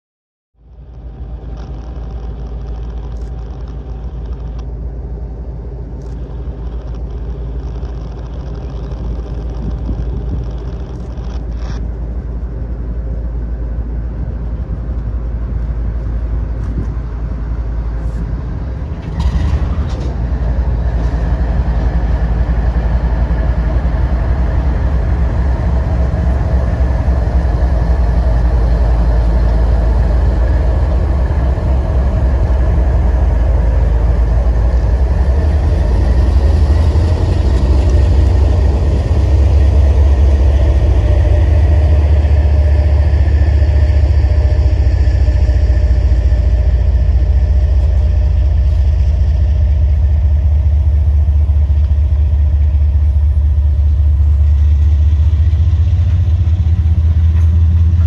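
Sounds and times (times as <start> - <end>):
diesel locomotive engine rumble: 0.6 - 58.0.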